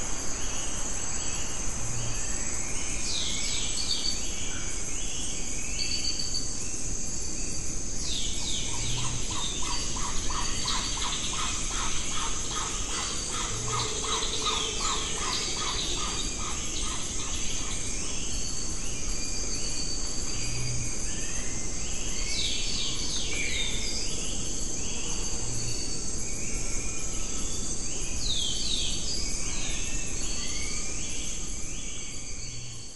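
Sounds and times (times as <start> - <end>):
insect drone: 0.0 - 32.9.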